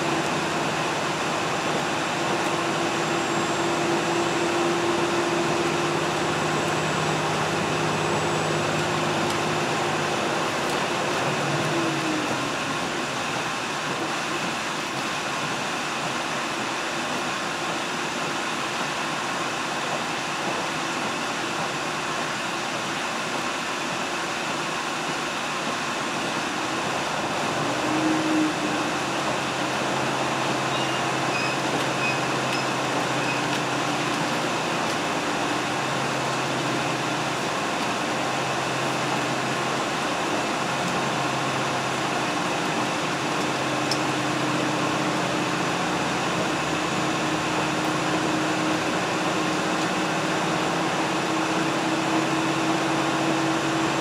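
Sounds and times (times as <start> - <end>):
train running rumble: 0.0 - 54.0.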